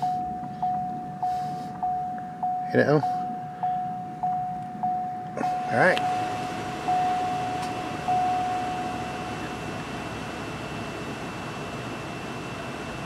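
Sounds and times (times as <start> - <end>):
car cabin hum: 0.0 - 13.0
electronic chime in car: 0.0 - 13.0.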